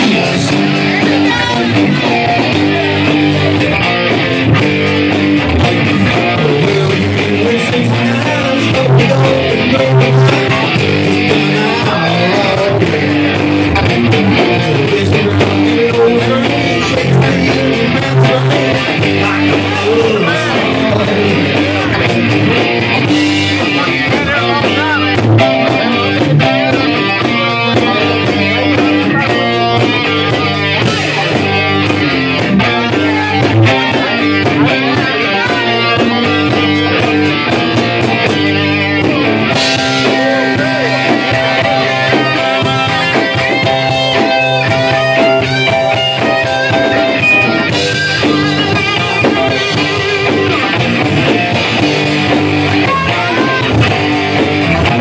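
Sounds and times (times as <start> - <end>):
live rock band playing: 0.0 - 55.0
steady drum beat: 0.0 - 55.0.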